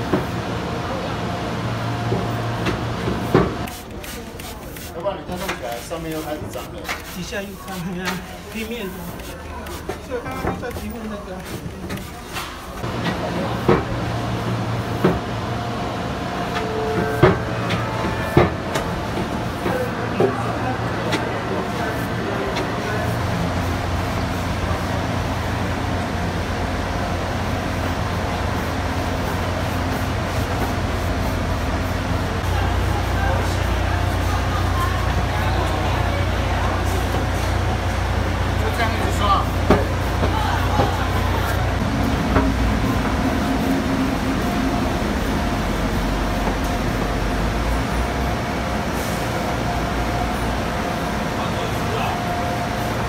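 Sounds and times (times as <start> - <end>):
escalator hum and rumble: 0.0 - 3.7, 12.4 - 53.0.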